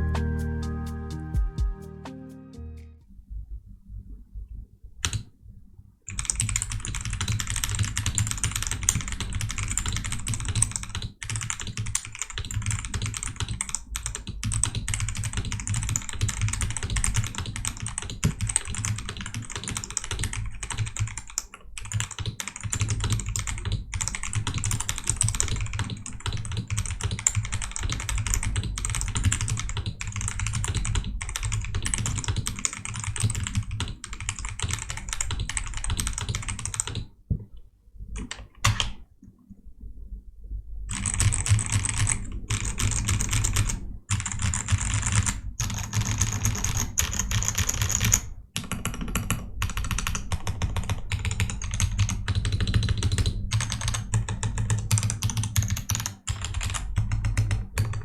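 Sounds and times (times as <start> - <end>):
mechanical keyboard typing: 6.1 - 37.1, 38.2 - 39.0, 40.9 - 58.0.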